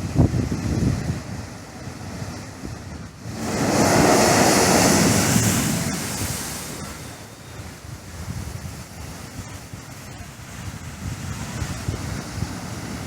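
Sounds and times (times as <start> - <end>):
wind on microphone: 0.0 - 13.0
waves breaking against rocks: 1.1 - 13.0.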